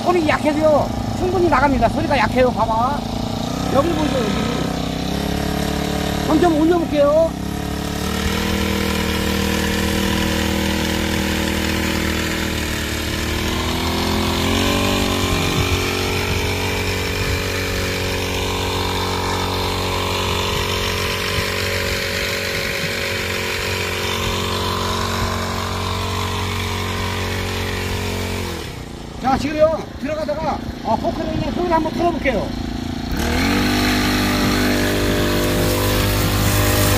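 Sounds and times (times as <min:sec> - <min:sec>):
small engine running: 0:00.0 - 0:36.9.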